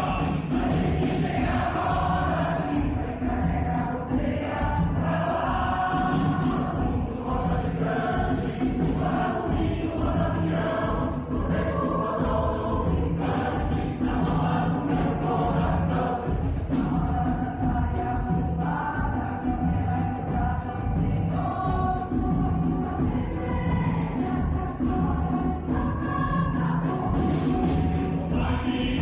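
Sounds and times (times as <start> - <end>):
mixed choir singing: 0.0 - 29.0
percussion beat: 0.0 - 29.0.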